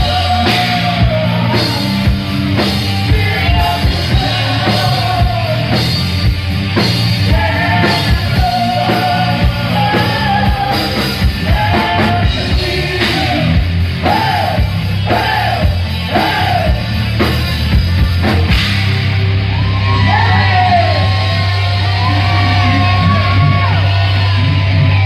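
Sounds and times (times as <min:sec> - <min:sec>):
yelled sung lead vocal: 0:00.0 - 0:17.7, 0:19.4 - 0:25.0
heavy bass line: 0:00.0 - 0:25.0
heavy rock band playing: 0:00.0 - 0:25.0.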